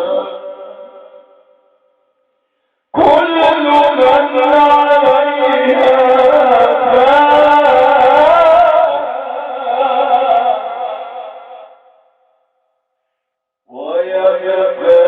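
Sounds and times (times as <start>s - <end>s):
man chanting melodically: 0.0s - 1.7s, 2.9s - 12.0s, 13.7s - 15.0s.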